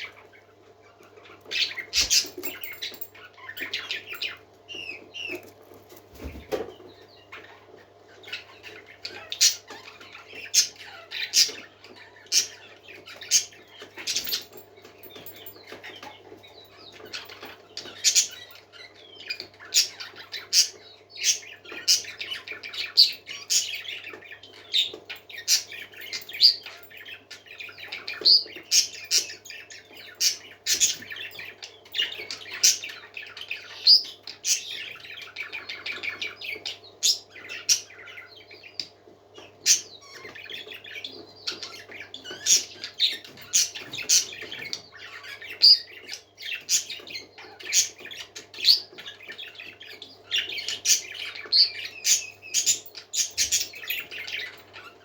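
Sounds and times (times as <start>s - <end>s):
parakeets chattering and squawking: 0.0s - 55.0s.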